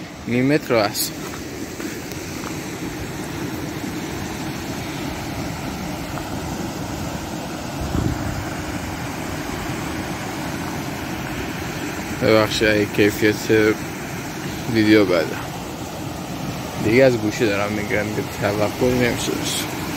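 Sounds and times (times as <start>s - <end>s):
floodwater rushing: 0.0s - 19.9s.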